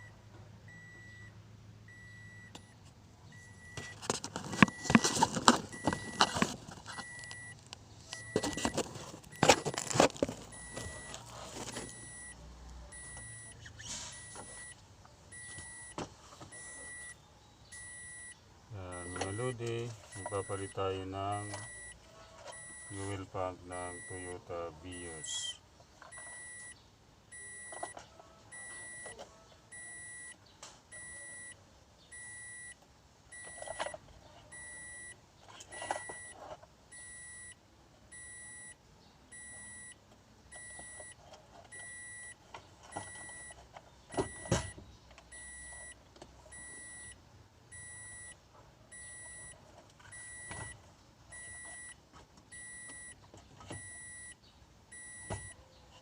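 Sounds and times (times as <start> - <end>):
car warning chime beeping: 0.0 - 4.0, 5.7 - 25.5, 26.1 - 55.6.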